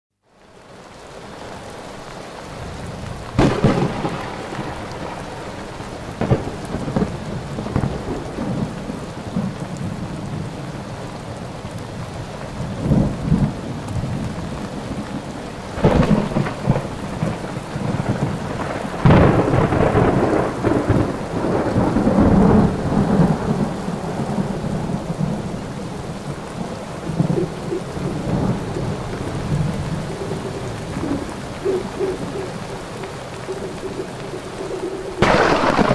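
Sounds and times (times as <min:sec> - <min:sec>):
steady rain: 0:00.1 - 0:35.9
thunder rolling: 0:02.5 - 0:10.1, 0:12.8 - 0:35.9.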